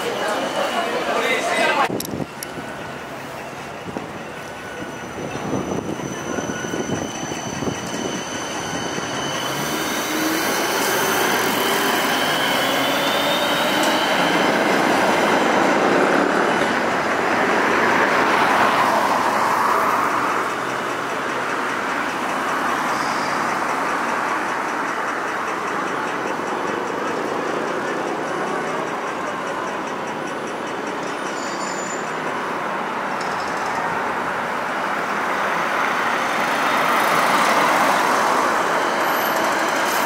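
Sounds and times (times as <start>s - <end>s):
tram rolling rumble: 0.0s - 40.0s
tram wheels squealing on rails: 0.0s - 40.0s.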